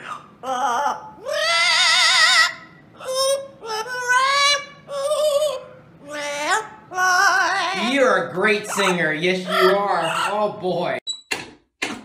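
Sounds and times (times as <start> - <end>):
parrot singing with vibrato: 0.0 - 10.5.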